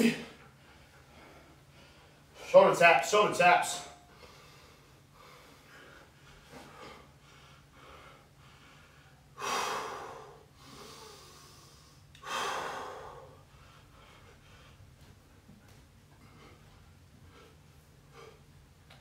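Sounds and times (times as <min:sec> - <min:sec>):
man breathing hard: 0:00.0 - 0:02.5, 0:04.0 - 0:18.8.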